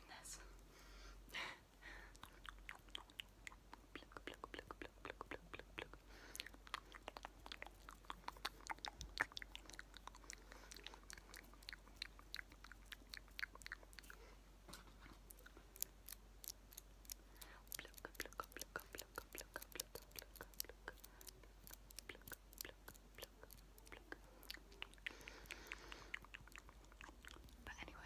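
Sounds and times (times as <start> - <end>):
wet mouth clicks and smacks: 2.1 - 14.2, 15.2 - 28.0.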